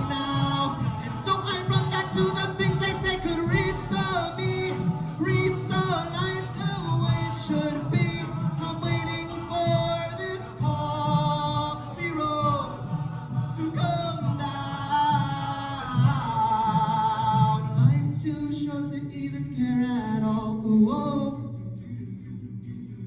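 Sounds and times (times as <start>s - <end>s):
a cappella group singing harmonies: 0.0s - 23.0s.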